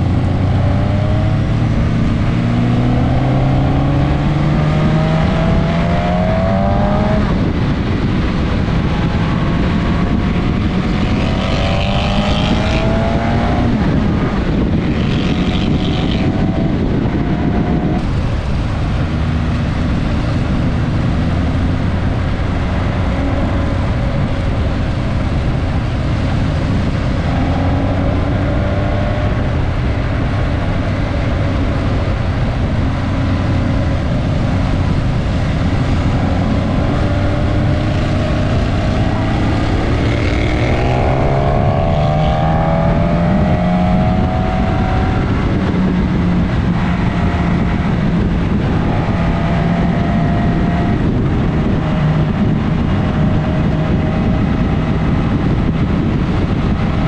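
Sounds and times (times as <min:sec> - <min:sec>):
heavy wind noise: 0:00.0 - 0:57.0
motorcycle engine shifting gears: 0:00.0 - 0:57.0.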